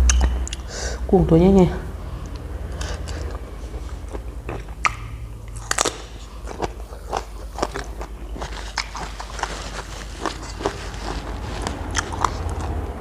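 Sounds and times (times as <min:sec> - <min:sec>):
biting and chewing shrimp: 0:02.1 - 0:13.0.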